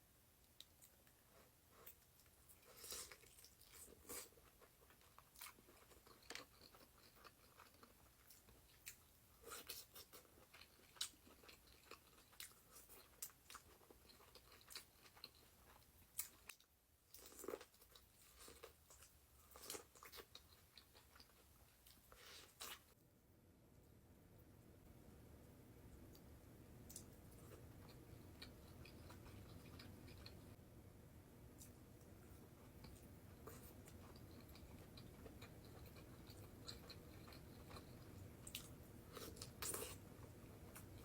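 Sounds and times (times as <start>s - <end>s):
person chewing food: 0.5s - 23.0s, 26.1s - 30.6s, 31.6s - 41.0s.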